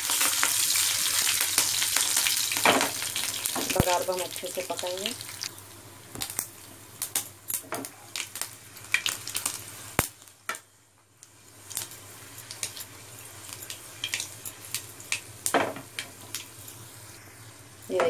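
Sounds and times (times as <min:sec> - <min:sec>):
crackles and pops: 0:00.0 - 0:18.0
spices sizzling in hot oil: 0:00.0 - 0:18.0.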